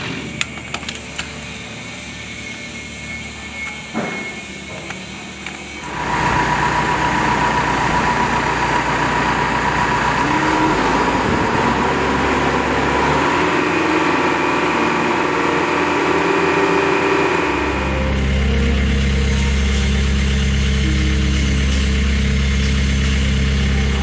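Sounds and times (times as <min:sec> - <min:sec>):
steady mechanical whine: 0:00.0 - 0:24.0
concrete mixer engine rumbling: 0:04.4 - 0:24.0.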